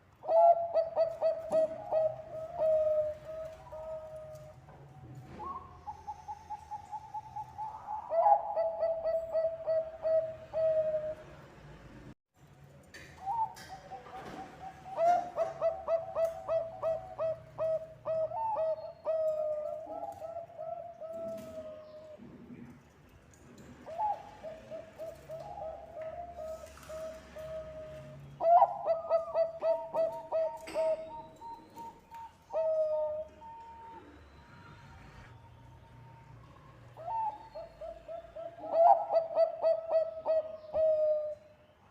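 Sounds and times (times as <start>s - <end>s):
dove cooing: 0.2s - 4.7s, 5.3s - 11.4s, 13.2s - 22.2s, 23.8s - 35.3s, 36.9s - 41.5s.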